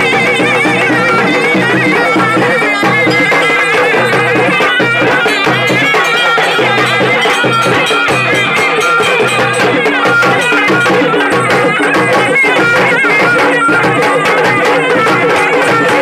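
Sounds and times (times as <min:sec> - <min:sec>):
folk drums beaten with sticks: 0:00.0 - 0:16.0
high wavering melody: 0:00.0 - 0:16.0.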